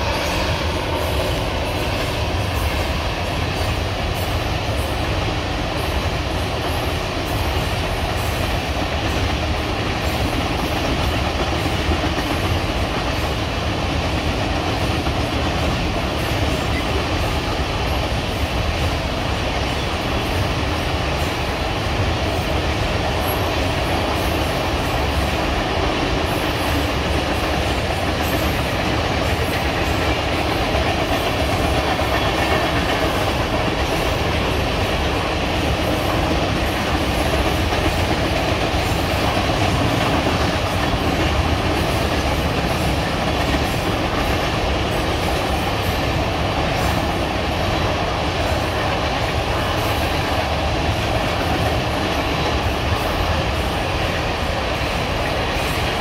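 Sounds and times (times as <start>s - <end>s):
freight train wheels clattering on rails: 0.0s - 56.0s.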